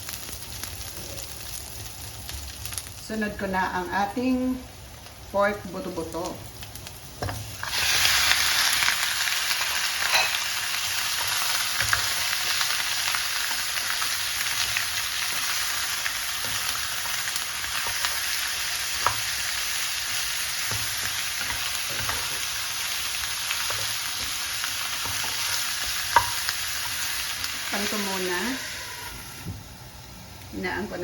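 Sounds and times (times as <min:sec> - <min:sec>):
meat sizzling in hot oil: 0:00.0 - 0:30.9.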